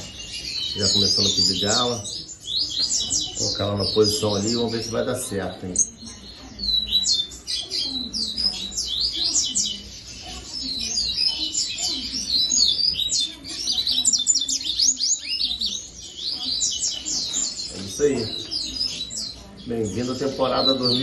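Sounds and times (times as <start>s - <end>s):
birds singing and chirping: 0.0s - 21.0s.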